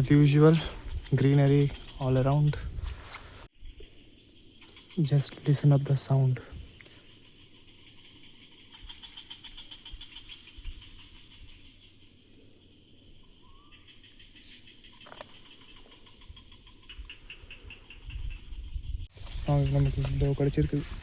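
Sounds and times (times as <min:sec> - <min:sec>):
insects high whine: 0:00.0 - 0:21.0
insect pulsing trill: 0:03.5 - 0:21.0.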